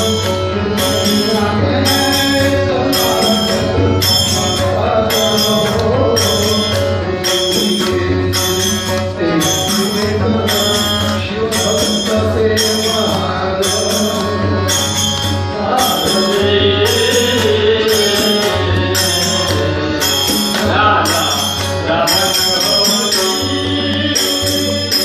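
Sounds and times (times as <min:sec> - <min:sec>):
hand cymbals ringing: 0:00.0 - 0:25.0
hand drum: 0:00.0 - 0:25.0
man singing devotional song: 0:00.0 - 0:25.0.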